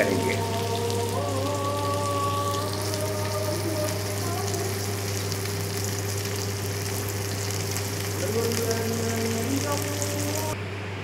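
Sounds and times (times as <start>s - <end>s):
onions sizzling in oil: 0.0s - 10.6s.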